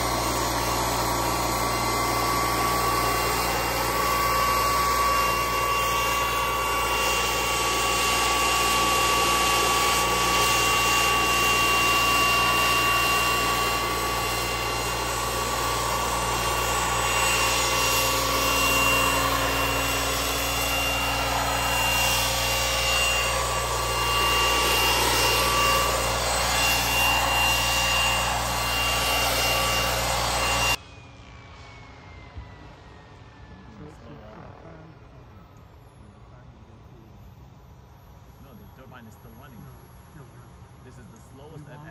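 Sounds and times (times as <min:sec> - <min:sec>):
helicopter rotor rush: 0:00.0 - 0:41.9
turbine engine whine: 0:00.0 - 0:41.9.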